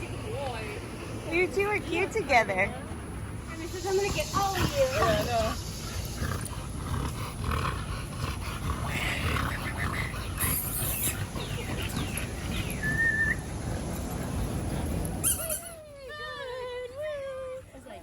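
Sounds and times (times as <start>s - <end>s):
dogs breathing and moving: 0.0s - 18.0s.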